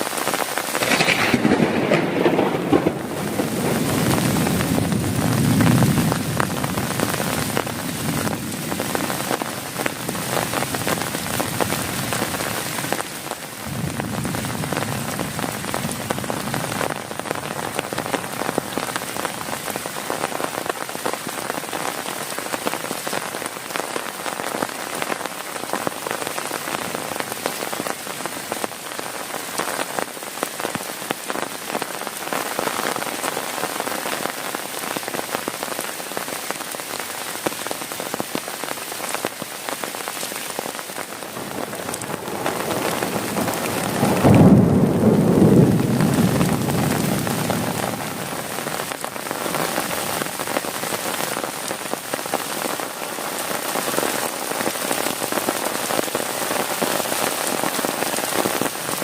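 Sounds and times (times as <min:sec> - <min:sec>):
heavy rain on a tent: 0:00.0 - 0:59.0.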